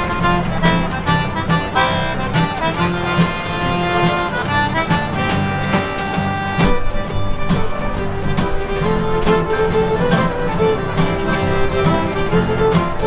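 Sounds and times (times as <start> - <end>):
button accordion: 0.0 - 13.0
fiddle: 0.0 - 13.0
strummed acoustic guitars: 0.0 - 13.0.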